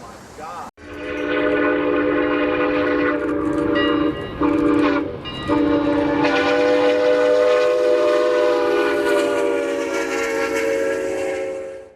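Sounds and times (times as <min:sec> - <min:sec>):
steam locomotive whistle: 0:00.8 - 0:11.9.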